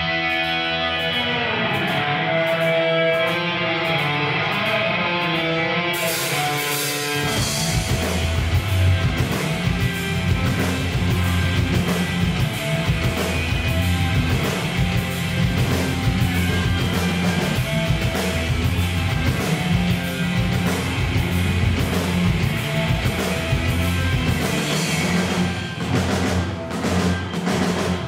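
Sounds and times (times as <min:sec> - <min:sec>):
drums and cymbals: 0:00.0 - 0:28.0
electric guitar melody: 0:00.0 - 0:28.0
live rock band playing: 0:00.0 - 0:28.0.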